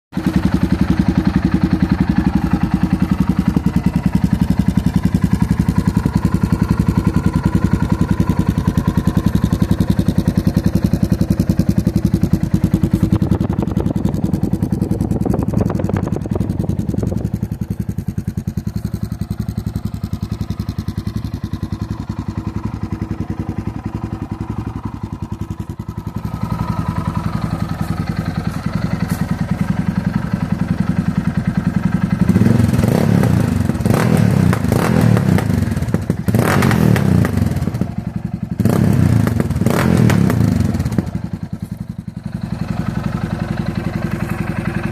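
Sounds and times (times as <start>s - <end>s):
motorcycle engine idling: 0.1s - 44.9s.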